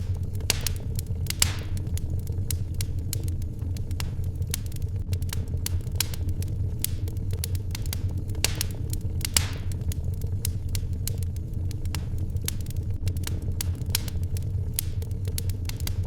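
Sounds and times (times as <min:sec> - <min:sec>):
steady low rumble: 0:00.0 - 0:16.0
wood fire crackling and popping: 0:00.0 - 0:16.0.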